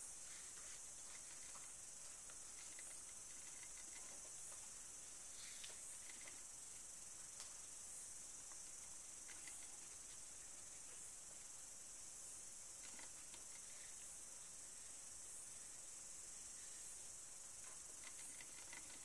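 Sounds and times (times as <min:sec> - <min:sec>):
high hiss of recording noise: 0:00.0 - 0:19.0.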